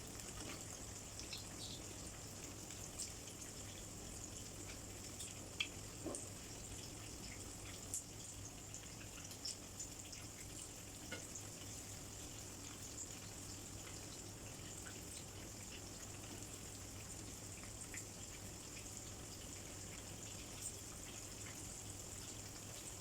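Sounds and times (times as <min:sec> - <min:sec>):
shrimp frying in oil: 0:00.0 - 0:23.0.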